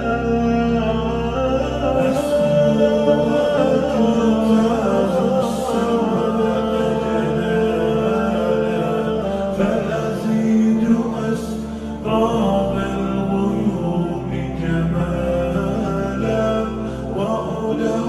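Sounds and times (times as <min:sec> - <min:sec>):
sustained drone: 0:00.0 - 0:18.0
voices singing with reverb: 0:00.0 - 0:18.0.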